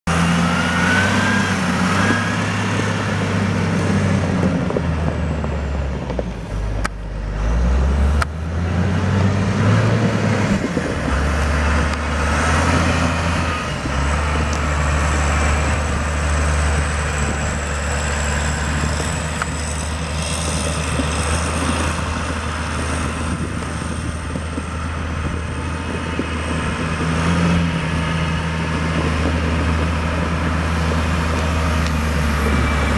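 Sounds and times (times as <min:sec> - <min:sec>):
loader diesel engine under load: 0:00.1 - 0:32.9.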